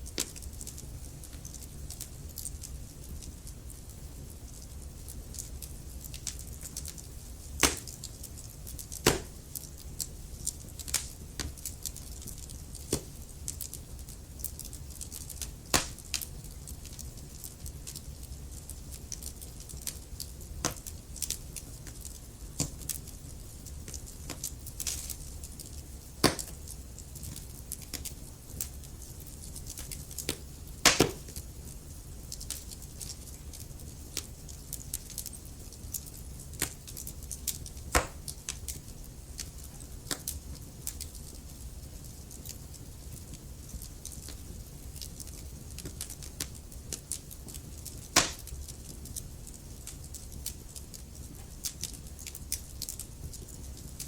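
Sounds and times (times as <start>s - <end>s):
fire rumbling: 0.0s - 54.0s
logs crackling and popping: 0.0s - 54.0s.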